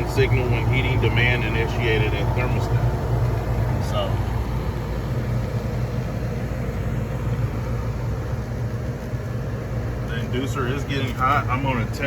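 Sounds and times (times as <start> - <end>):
gas furnace humming: 0.0 - 12.0.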